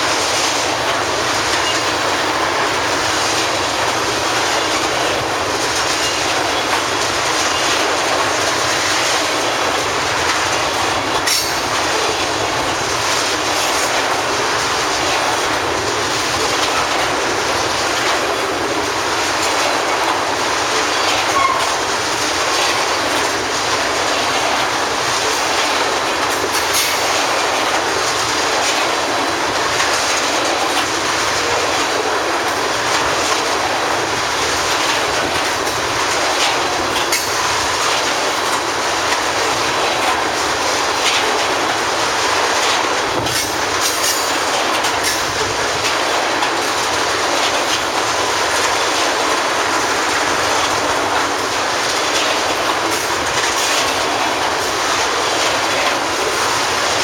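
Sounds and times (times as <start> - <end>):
train wheels rumbling on rail: 0.0 - 57.0
wheels clicking over rail joints: 0.0 - 57.0.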